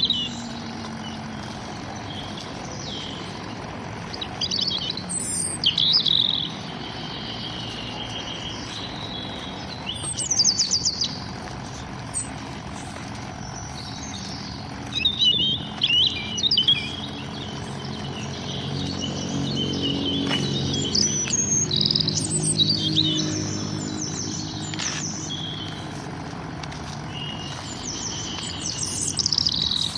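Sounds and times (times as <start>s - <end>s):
low background rumble: 0.0s - 29.9s
songbirds chirping: 0.0s - 29.9s.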